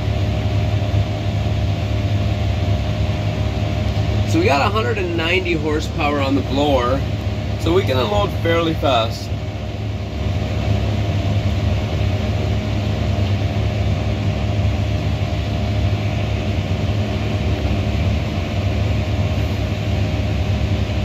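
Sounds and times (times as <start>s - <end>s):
forage blower blowing silage: 0.0s - 21.0s.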